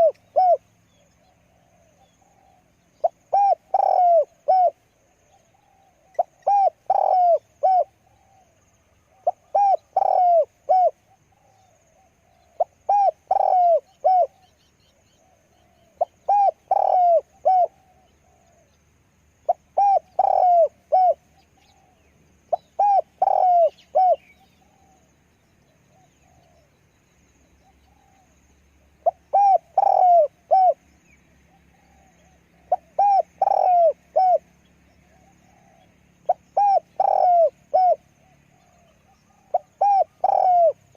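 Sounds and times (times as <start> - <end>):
dove cooing: 0.0 - 18.8, 19.5 - 25.1, 25.8 - 26.8, 27.6 - 40.9.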